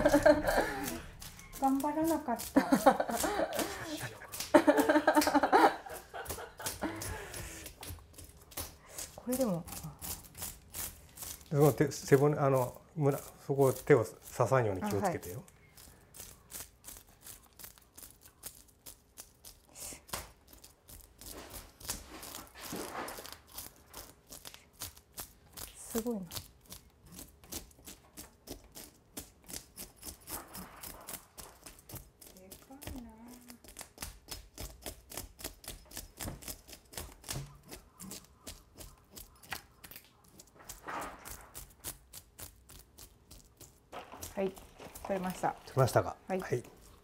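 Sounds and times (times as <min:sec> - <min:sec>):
fish scaler scraping scales: 0:00.0 - 0:47.0.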